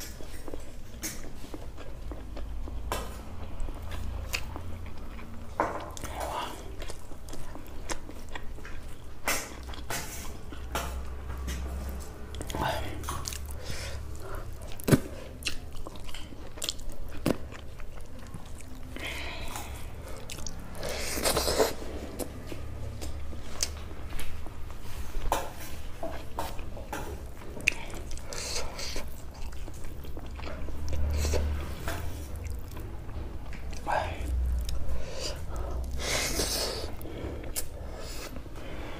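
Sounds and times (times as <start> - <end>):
chewing and mouth sounds: 0.0 - 38.9.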